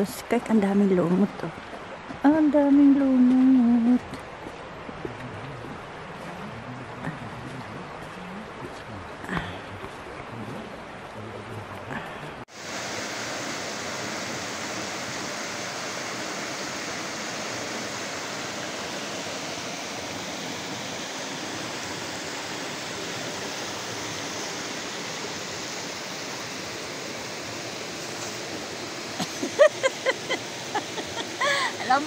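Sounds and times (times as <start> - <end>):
water rushing over rocks: 0.0 - 32.0.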